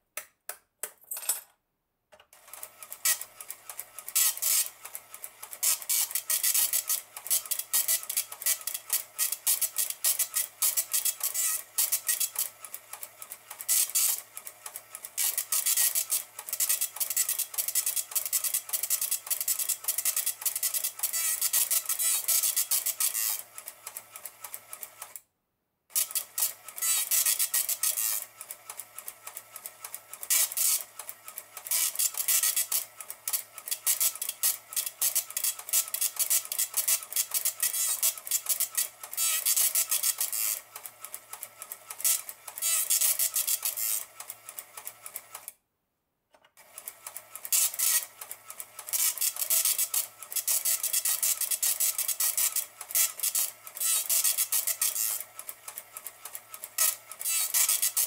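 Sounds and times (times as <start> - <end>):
dot matrix printer printing: 2.3 - 25.2, 25.9 - 45.6, 46.6 - 58.0.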